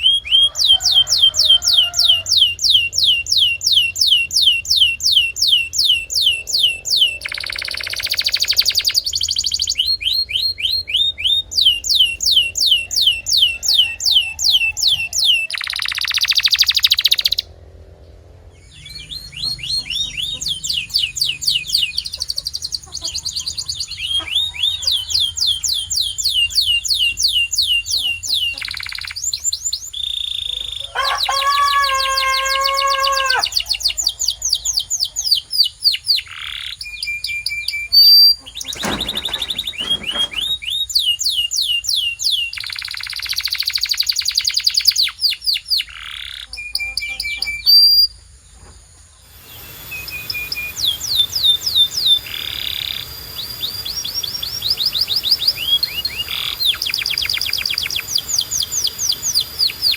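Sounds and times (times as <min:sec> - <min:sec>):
canary singing trills: 0:00.0 - 0:17.5, 0:18.6 - 0:48.3, 0:49.2 - 0:59.9.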